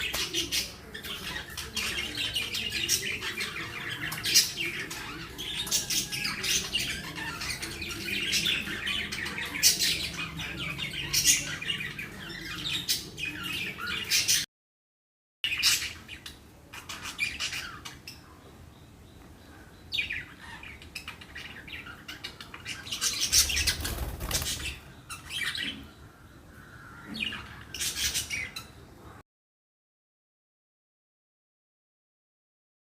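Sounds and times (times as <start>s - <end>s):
budgies chirping and chattering: 0.0s - 14.4s, 15.5s - 29.2s.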